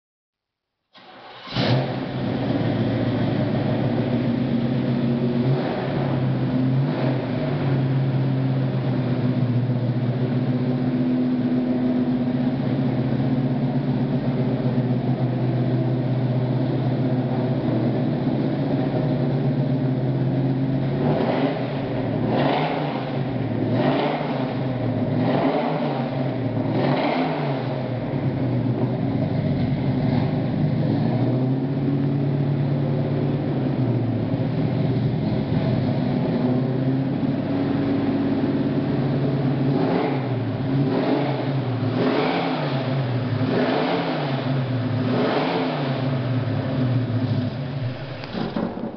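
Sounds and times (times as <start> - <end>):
car engine idling and revving: 1.0 - 48.9.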